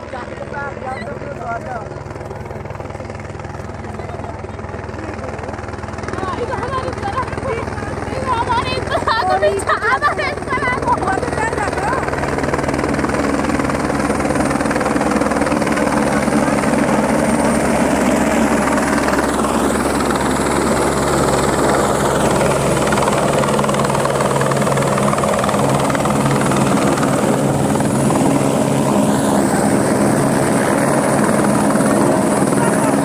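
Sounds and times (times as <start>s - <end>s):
helicopter rotor beat: 0.0s - 33.0s
high turbine whine: 0.0s - 33.0s.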